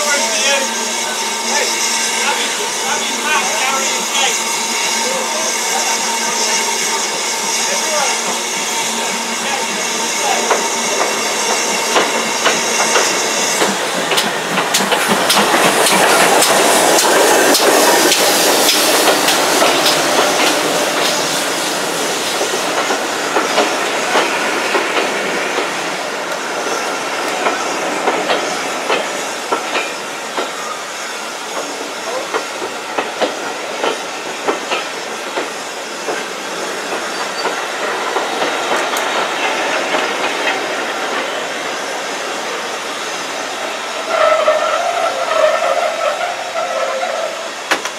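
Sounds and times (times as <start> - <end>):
steam hissing from cylinders: 0.0 - 47.9
steam locomotive pulling away: 0.0 - 47.9
train wheels clicking on rails: 0.0 - 47.9.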